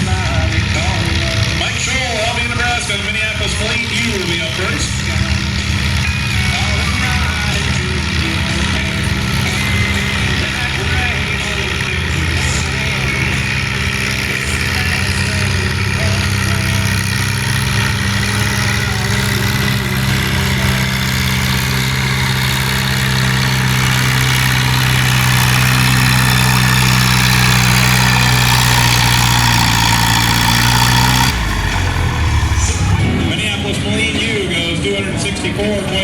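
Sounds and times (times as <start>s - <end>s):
tractor engine running under load: 0.0s - 36.0s.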